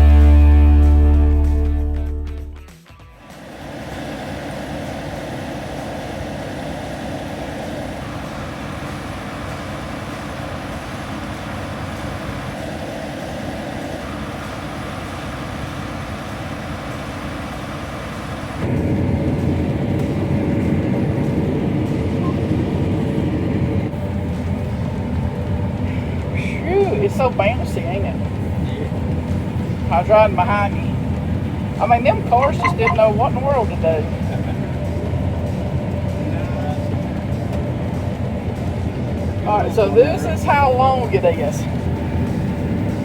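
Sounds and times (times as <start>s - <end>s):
combine harvester engine rumbling: 0.0s - 2.5s, 3.3s - 43.0s.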